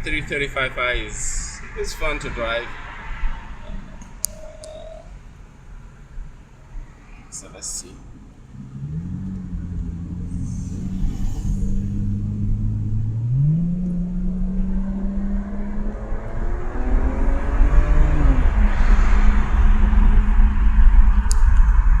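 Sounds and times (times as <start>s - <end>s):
car engine accelerating: 0.0s - 7.4s, 8.0s - 22.0s.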